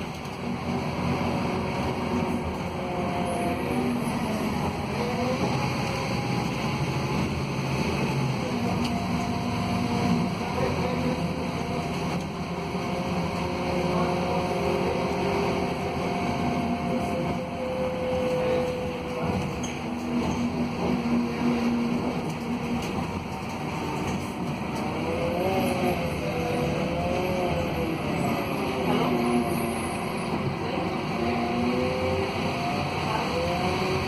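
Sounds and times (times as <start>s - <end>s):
bus diesel engine drone: 0.0s - 34.0s
road and tyre noise: 0.0s - 34.0s.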